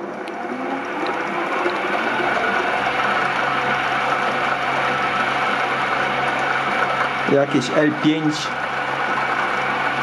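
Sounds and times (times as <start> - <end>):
water coolant hissing: 0.0 - 10.0.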